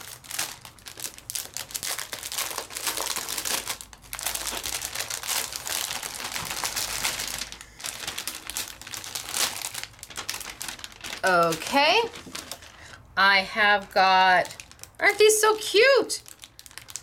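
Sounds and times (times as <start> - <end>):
packaging crinkling and rustling: 0.0 - 13.0, 14.2 - 17.0.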